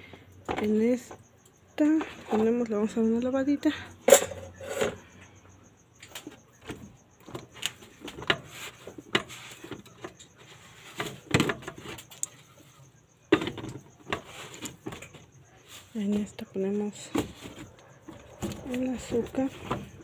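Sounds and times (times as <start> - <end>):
jars and bottles clattering on wood: 0.0 - 5.2, 6.0 - 12.6, 13.3 - 20.0.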